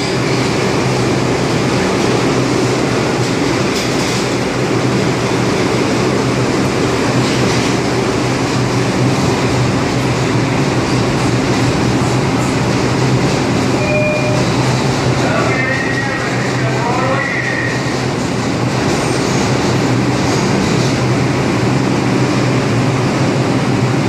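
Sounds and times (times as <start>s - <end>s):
station noise: 0.0s - 24.0s
subway train equipment humming: 0.0s - 24.0s.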